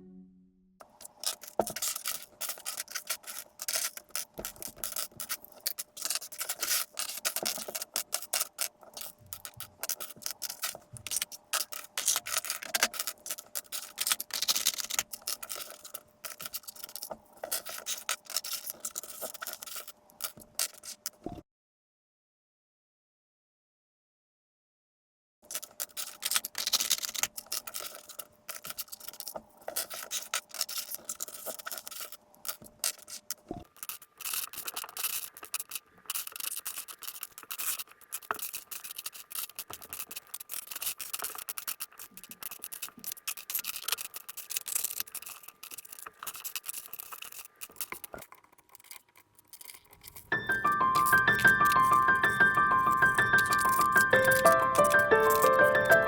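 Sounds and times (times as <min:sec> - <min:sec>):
plastic pieces clicking and rattling: 0:00.8 - 0:21.3, 0:25.5 - 0:56.0.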